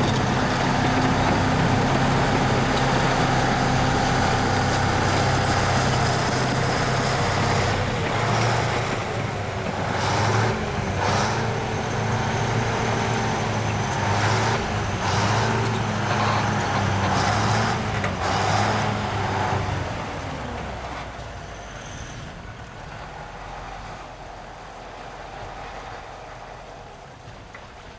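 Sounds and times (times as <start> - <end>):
vehicle engine running under load: 0.0 - 27.9.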